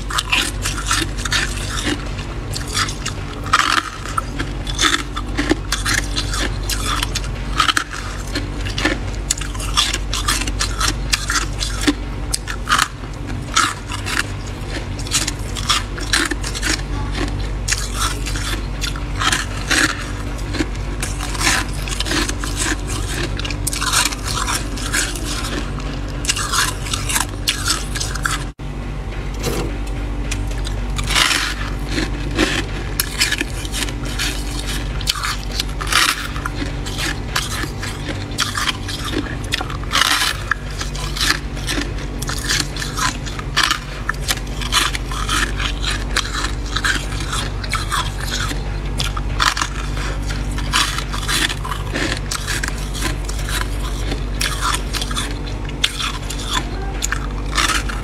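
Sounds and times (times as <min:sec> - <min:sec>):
freezer frost being scraped: 0:00.0 - 0:28.6, 0:31.0 - 0:58.0
steady low hum: 0:00.0 - 0:58.0.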